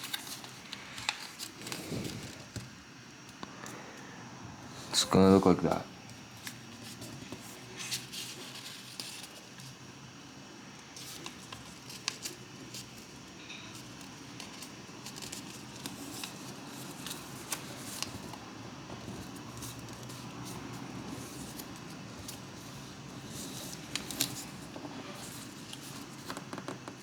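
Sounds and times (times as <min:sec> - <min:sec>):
paper crinkling and creasing: 0:00.0 - 0:02.8, 0:04.9 - 0:09.8, 0:11.0 - 0:27.0
faint steady hum: 0:00.0 - 0:27.0.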